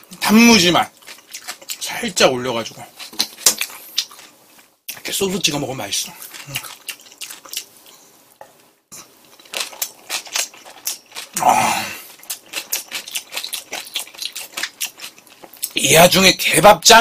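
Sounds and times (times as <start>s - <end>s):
crunchy chewing of fried cutlet: 0.0s - 15.8s.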